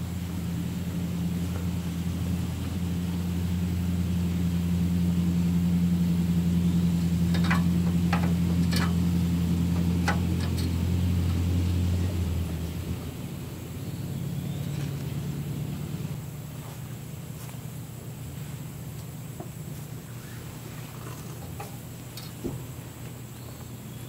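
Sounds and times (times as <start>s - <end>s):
low motor drone: 0.0s - 24.0s.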